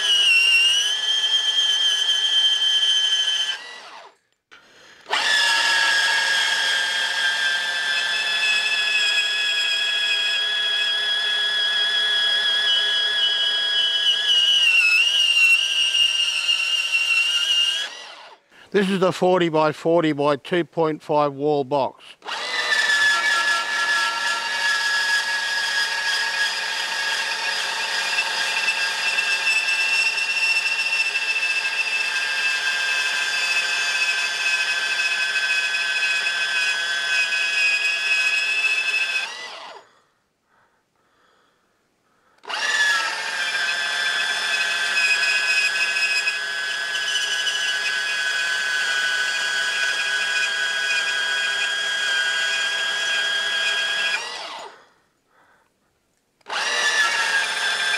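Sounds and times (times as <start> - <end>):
bandsaw cutting metal: 0.0 - 4.2, 4.8 - 19.0, 22.0 - 39.9, 42.4 - 54.9, 56.4 - 57.9.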